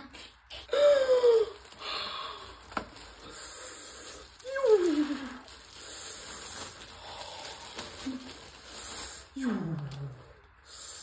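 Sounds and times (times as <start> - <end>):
packaging rustling: 1.0 - 10.3.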